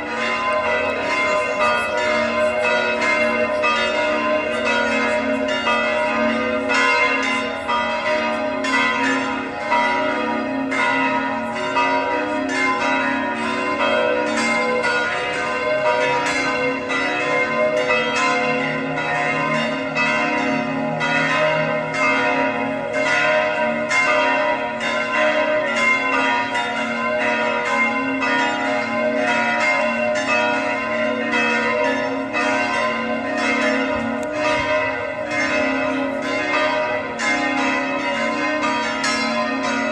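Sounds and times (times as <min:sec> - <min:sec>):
large bells pealing: 0:00.0 - 0:39.9.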